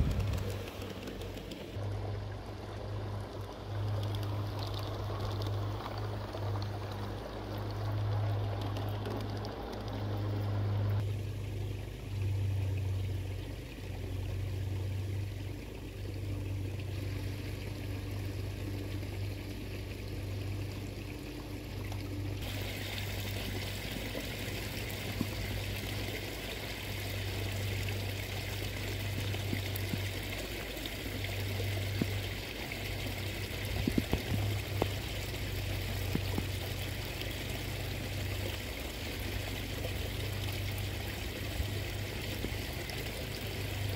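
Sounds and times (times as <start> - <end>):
low steady hum: 0.0 - 43.9
water trickling into pond: 0.0 - 43.9.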